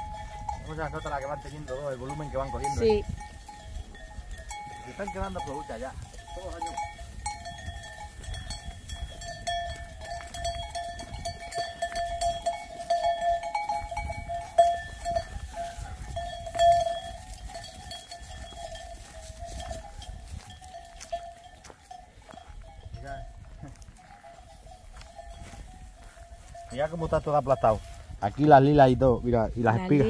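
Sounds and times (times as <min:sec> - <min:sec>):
sheep bells ringing: 0:00.0 - 0:30.0.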